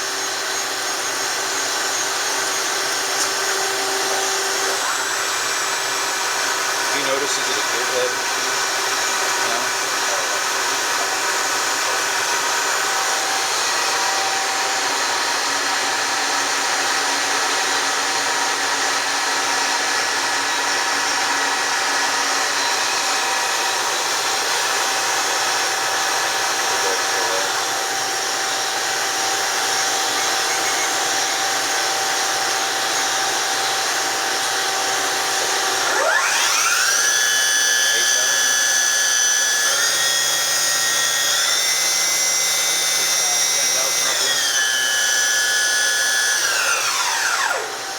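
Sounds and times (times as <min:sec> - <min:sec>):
machine spindle gear whine: 0:00.0 - 0:47.9.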